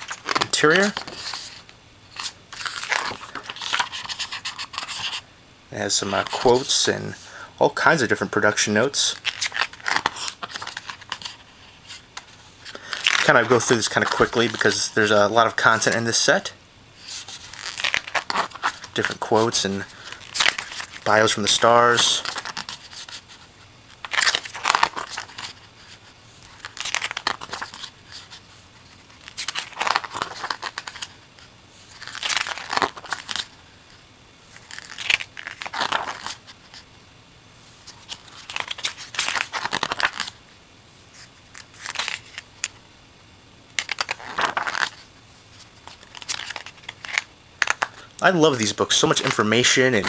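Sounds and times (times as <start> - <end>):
book pages turning: 0.0 - 5.2, 5.8 - 7.0, 8.4 - 16.1, 17.0 - 36.8, 37.8 - 40.4, 41.1 - 42.8, 43.7 - 50.0.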